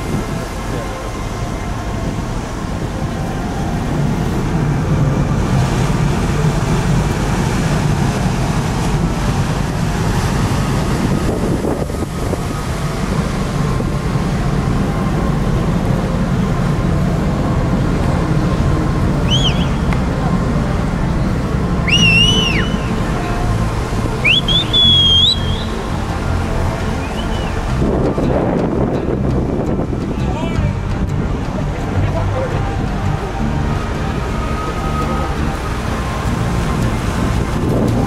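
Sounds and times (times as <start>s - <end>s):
rushing water: 0.0s - 38.0s
ship engines rumbling: 0.0s - 38.0s
wind on microphone: 0.0s - 38.0s.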